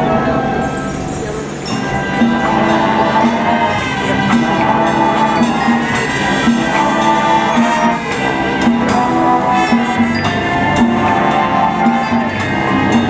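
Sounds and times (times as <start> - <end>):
brass and woodwind chords: 0.0 - 13.0
percussion hits: 0.6 - 13.0.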